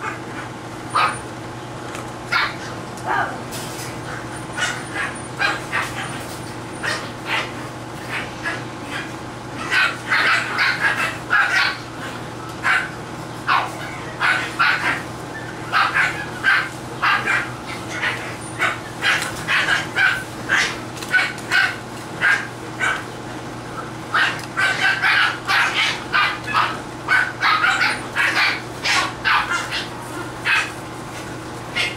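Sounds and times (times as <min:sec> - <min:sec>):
puppies yapping and barking: 0:00.0 - 0:01.6, 0:02.2 - 0:31.9.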